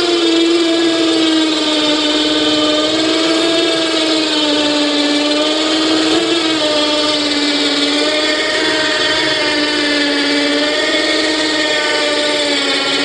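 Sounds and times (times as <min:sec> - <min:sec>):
electric winch motor whining: 0:00.0 - 0:13.0.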